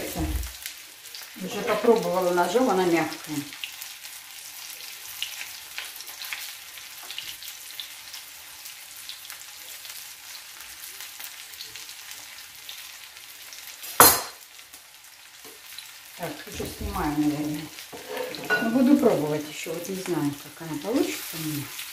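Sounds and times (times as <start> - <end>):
food sizzling in hot oil: 0.0 - 21.9.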